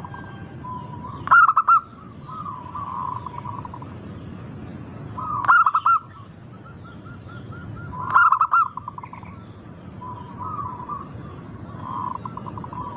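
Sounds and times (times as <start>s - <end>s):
doves cooing: 0.0s - 4.1s, 5.1s - 12.9s.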